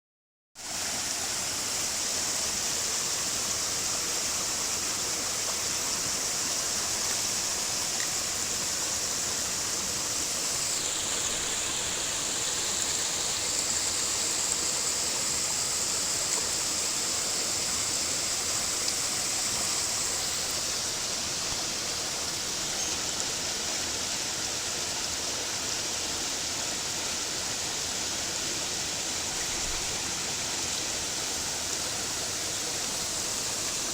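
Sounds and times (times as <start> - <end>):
stream flowing: 0.6 - 33.9.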